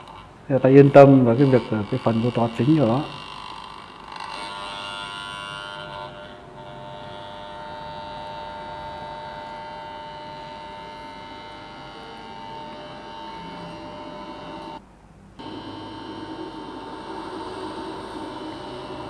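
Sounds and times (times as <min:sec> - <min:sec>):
electromagnet humming: 0:00.0 - 0:14.8, 0:15.4 - 0:19.0.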